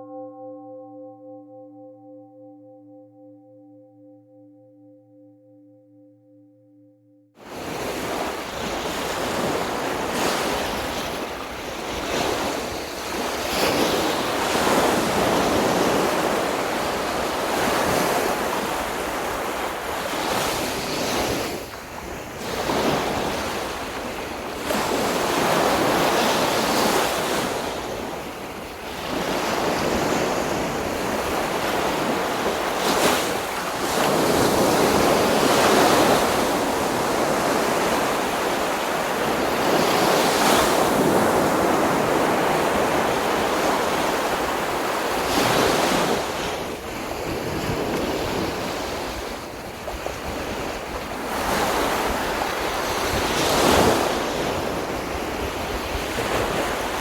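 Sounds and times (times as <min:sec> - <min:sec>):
sea surf breaking on beach: 0:07.5 - 0:57.0.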